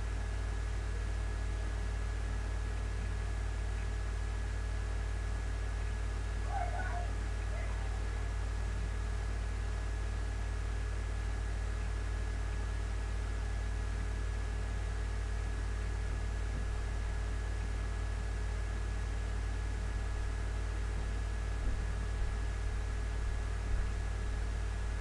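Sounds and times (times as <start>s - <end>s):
background hum and hiss: 0.0s - 25.0s.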